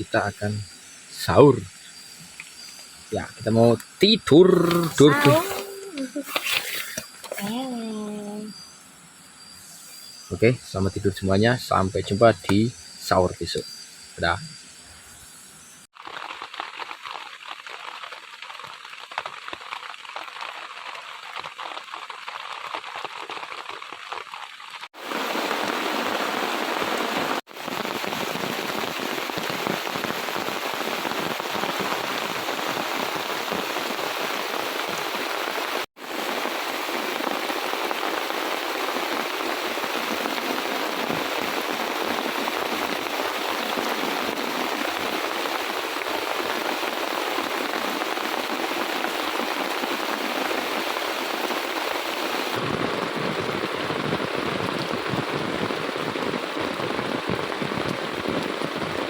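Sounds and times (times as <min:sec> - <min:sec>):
heavy rain falling: 0:01.2 - 0:06.4, 0:16.0 - 0:59.0.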